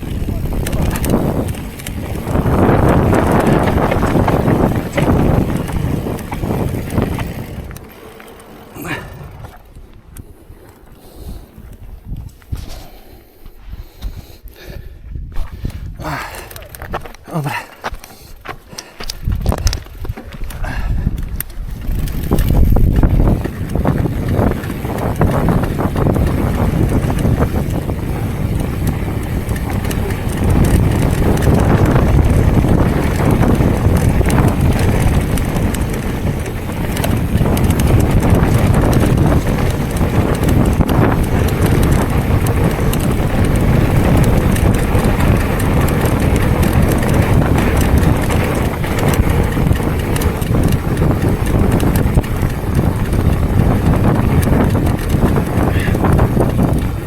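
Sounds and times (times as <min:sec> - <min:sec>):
tyres rumbling on trail: 0:00.0 - 0:13.6, 0:15.5 - 0:57.0
bike knocking and rattling: 0:00.0 - 0:14.2, 0:15.3 - 0:57.0
wind buffeting microphone: 0:00.0 - 0:57.0.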